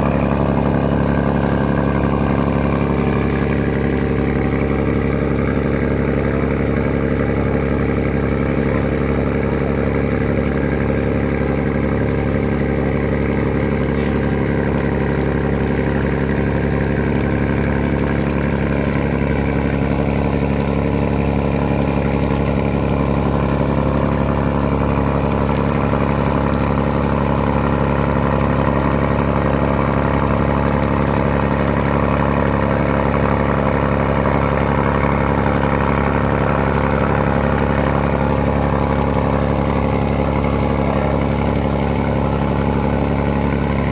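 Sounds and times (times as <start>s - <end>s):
ferry engine humming: 0.0s - 43.9s.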